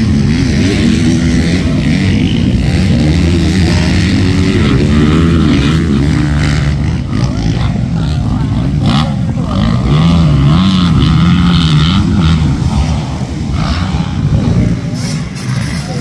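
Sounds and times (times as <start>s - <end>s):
dirt bike engines racing: 0.0s - 16.0s.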